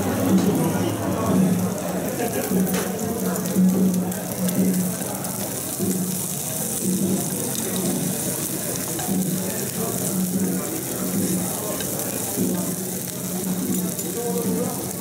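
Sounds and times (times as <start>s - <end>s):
beef sizzling in a frying pan: 0.0s - 15.0s
metal spoons turning meat: 2.1s - 15.0s.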